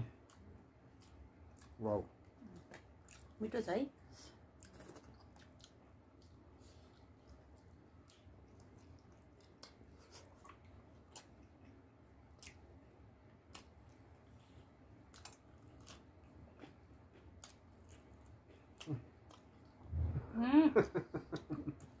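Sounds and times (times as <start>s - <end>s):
faint chewing: 0.0s - 19.9s.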